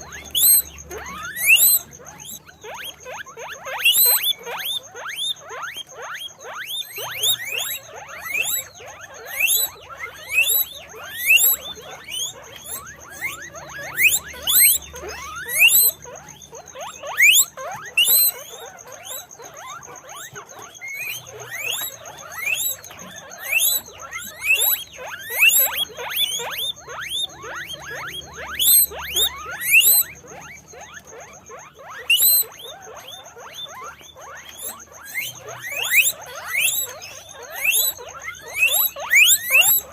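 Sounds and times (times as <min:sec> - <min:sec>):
guinea pigs squealing: 0:00.0 - 0:39.9.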